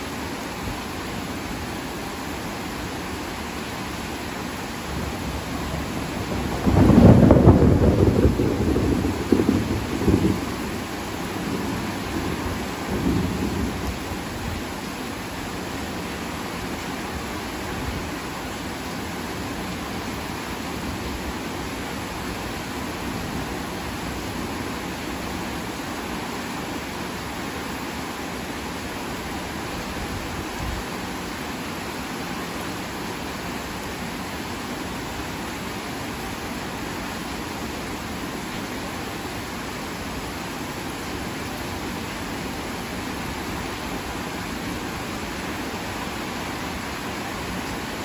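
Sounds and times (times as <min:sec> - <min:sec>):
heavy rain: 0:00.0 - 0:48.0.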